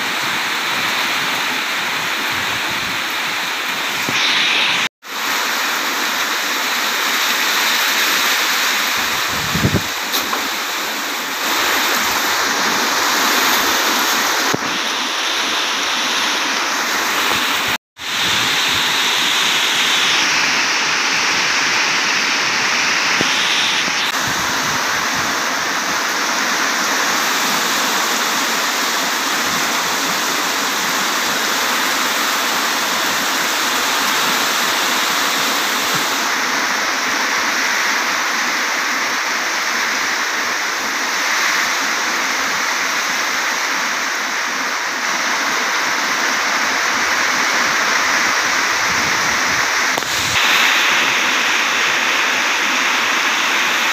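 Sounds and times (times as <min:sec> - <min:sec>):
heavy storm rain pouring: 0:00.0 - 0:53.9.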